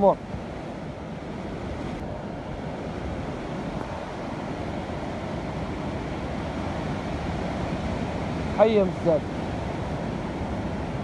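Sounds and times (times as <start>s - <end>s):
ocean surf breaking: 0.0s - 11.0s
wind on microphone: 0.0s - 11.0s.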